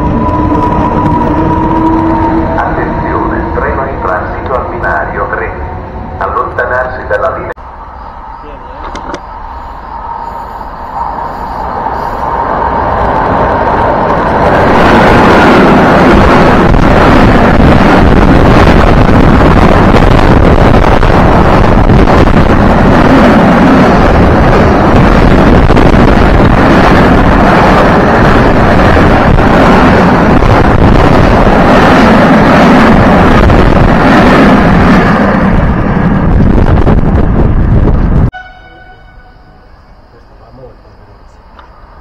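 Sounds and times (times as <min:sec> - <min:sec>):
wind buffeting microphone: 0:00.0 - 0:05.0, 0:08.4 - 0:38.4
freight train passing: 0:00.0 - 0:42.0.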